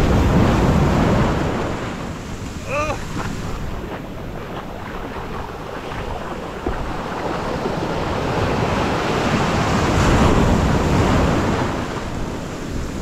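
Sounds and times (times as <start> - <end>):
surf breaking and churning: 0.0 - 13.0
wind on microphone: 0.0 - 13.0.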